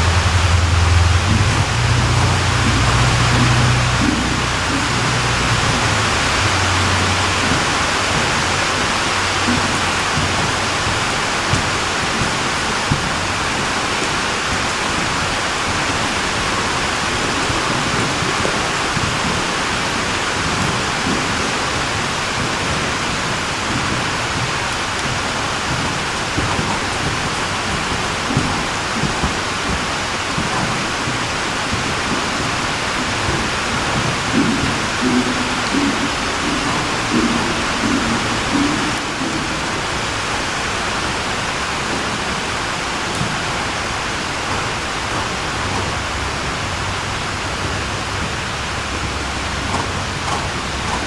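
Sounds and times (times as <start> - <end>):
steady rushing hiss: 0.0 - 51.0.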